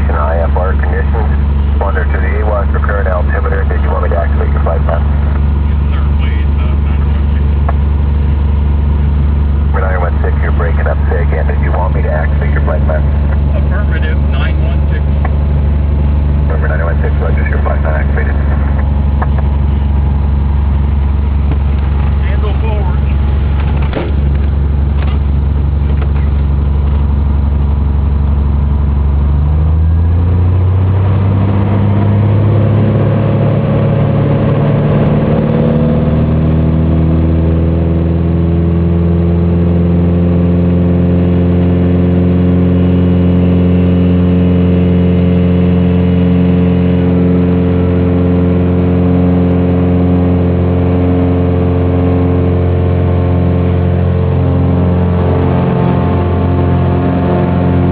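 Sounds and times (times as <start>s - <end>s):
propeller plane engine: 0.0s - 57.9s.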